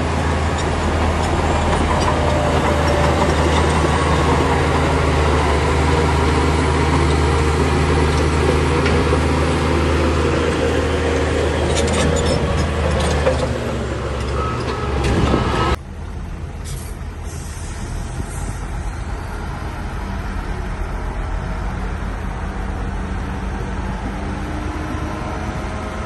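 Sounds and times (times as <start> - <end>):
diesel machine engine working: 0.0 - 26.0.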